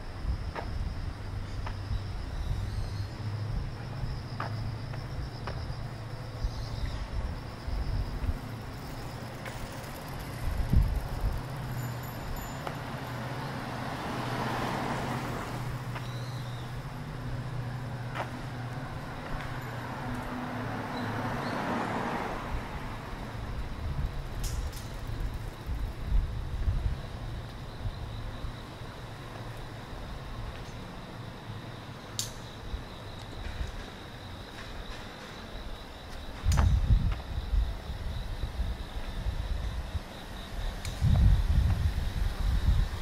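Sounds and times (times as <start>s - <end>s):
low hum of traffic: 0.0s - 43.0s
cars driving past: 1.2s - 36.5s.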